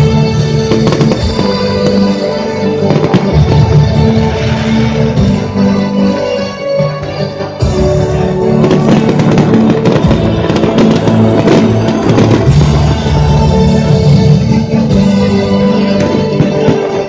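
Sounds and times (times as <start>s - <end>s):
fireworks bursting and crackling: 0.0s - 17.0s
loud music: 0.0s - 17.0s.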